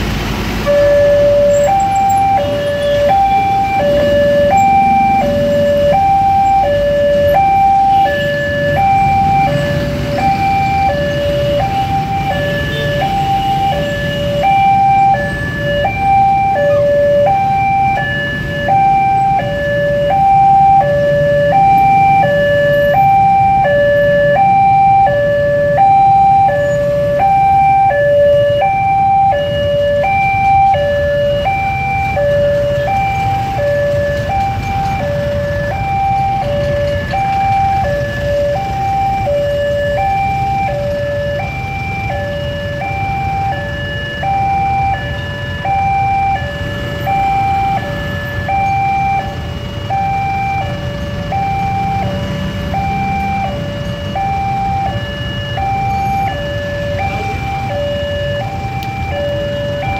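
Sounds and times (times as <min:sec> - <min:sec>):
motorcycle engines idling: 0:00.0 - 0:59.9
level crossing two-tone alarm: 0:00.6 - 0:59.9.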